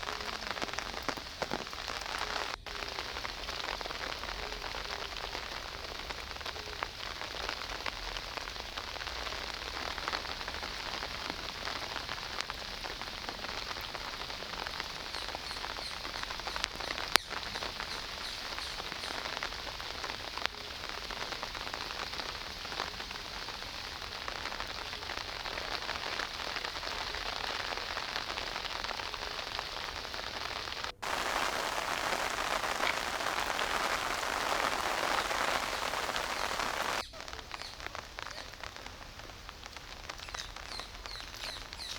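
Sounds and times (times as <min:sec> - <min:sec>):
rain pattering on surfaces: 0:00.0 - 0:41.9.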